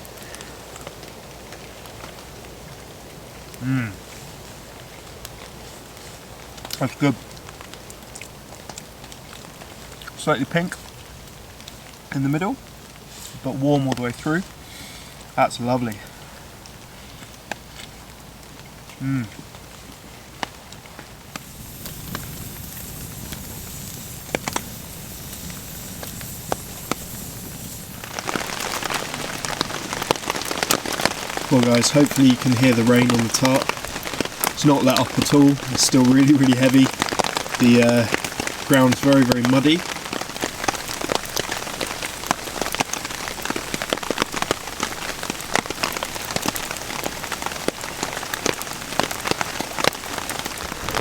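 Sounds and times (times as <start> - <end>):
campfire crackling and popping: 0.0 - 51.0
heavy rain hiss: 0.0 - 51.0
raindrops pattering on tarp: 0.0 - 51.0.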